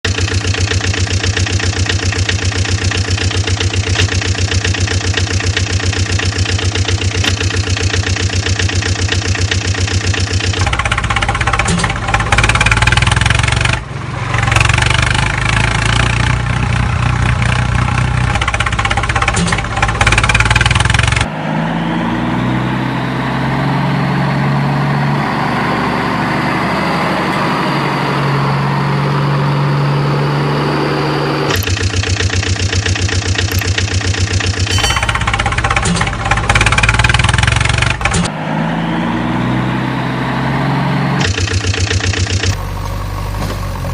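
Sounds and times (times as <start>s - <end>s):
vehicle engines running: 0.0s - 43.9s.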